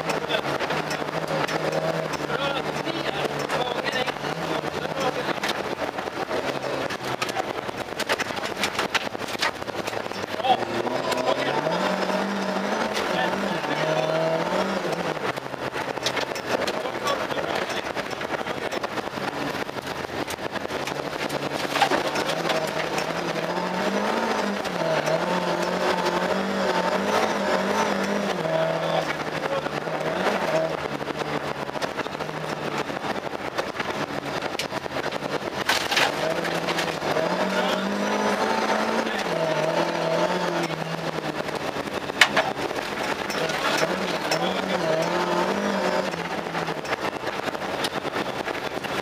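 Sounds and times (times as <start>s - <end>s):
gravel road noise: 0.0s - 49.0s
rally car engine revving: 0.0s - 49.0s.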